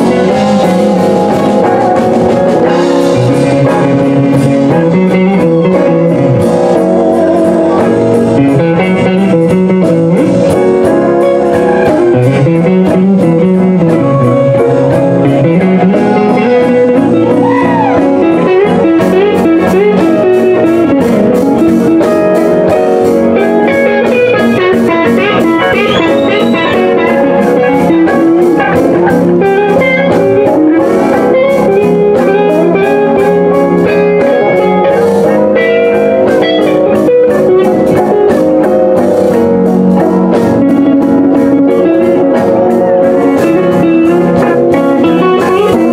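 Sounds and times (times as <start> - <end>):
electric guitar solo with bent notes: 0.0 - 45.9
live blues band playing: 0.0 - 45.9.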